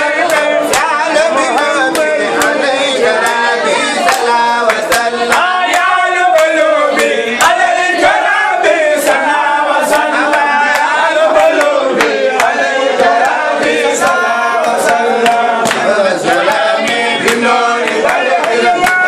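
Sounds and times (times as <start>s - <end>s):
hand claps: 0.0s - 2.6s, 3.2s - 3.4s, 4.0s - 7.6s, 9.9s - 19.0s
men chanting and singing: 0.0s - 19.0s.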